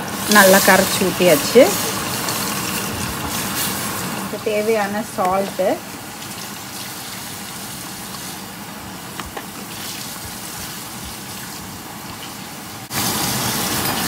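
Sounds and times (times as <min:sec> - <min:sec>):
gravy bubbling and hissing: 0:00.0 - 0:14.0.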